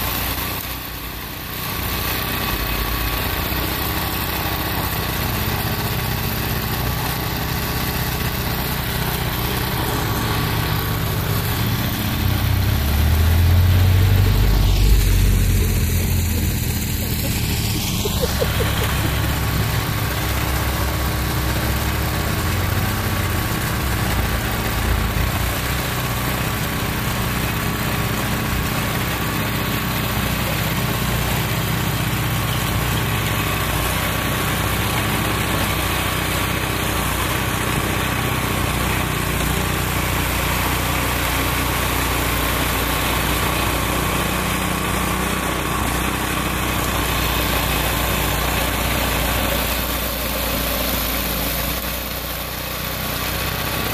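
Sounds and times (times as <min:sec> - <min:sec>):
snowblower engine running: 0:00.0 - 0:53.9.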